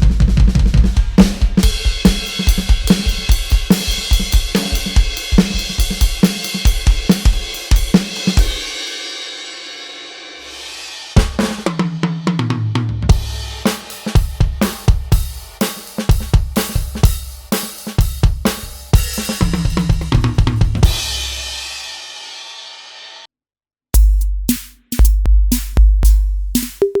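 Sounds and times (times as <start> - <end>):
rapid bass drum strokes: 0.0 - 8.9, 10.4 - 22.0, 24.0 - 27.0
drum beat with snare and hi-hat: 0.0 - 23.0, 24.0 - 27.0.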